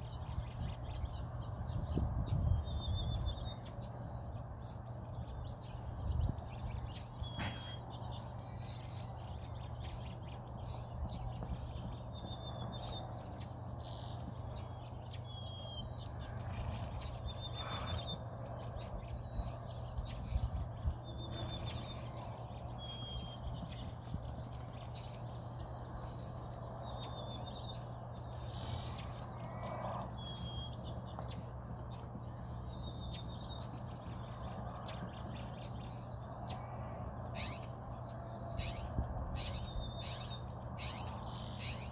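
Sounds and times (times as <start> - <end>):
small birds chirping: 0.0 - 41.9
steady low hum: 0.0 - 41.9.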